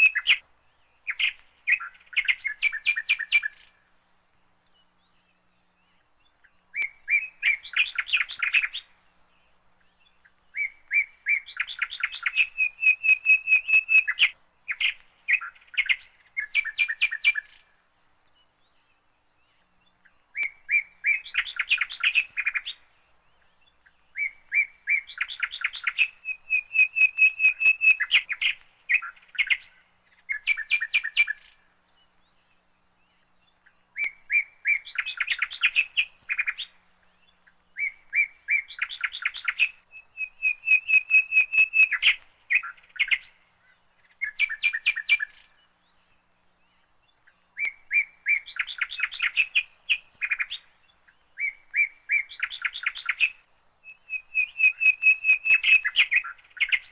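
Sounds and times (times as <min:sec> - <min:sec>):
songbird chirps and trills: 0:00.0 - 0:56.9.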